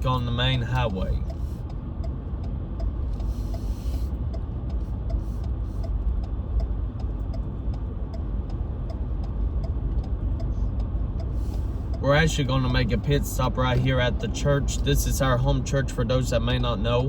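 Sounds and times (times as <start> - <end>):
car road and engine noise: 0.0 - 17.0
turn signal ticking: 0.0 - 17.0.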